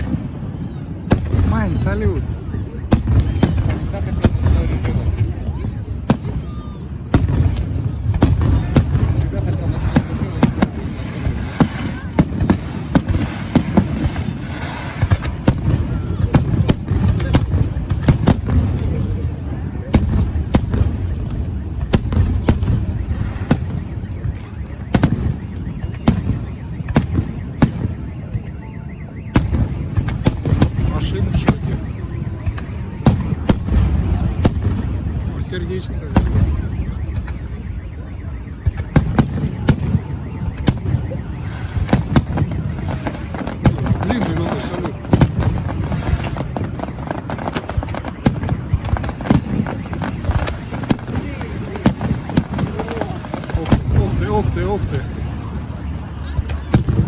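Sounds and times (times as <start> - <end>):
distant fireworks rumble: 0.0 - 57.0
fireworks bangs: 0.0 - 57.0.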